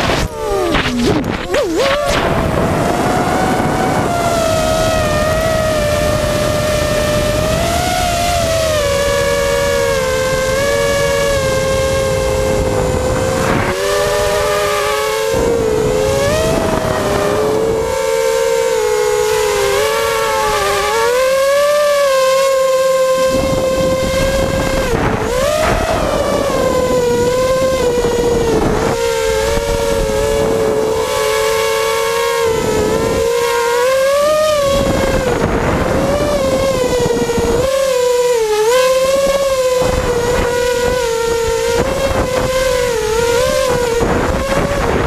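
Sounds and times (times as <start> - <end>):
drone motors whining: 0.0 - 45.0.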